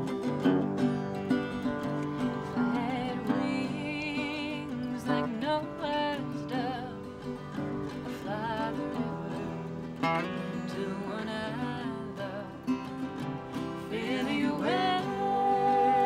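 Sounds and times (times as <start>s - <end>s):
acoustic guitar playing: 0.0s - 16.0s
woman singing with vibrato: 2.2s - 16.0s.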